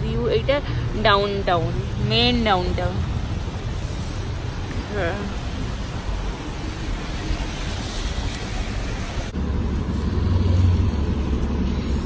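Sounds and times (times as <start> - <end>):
bus engine rumble: 0.0 - 12.0
wet street traffic hiss: 0.0 - 12.0.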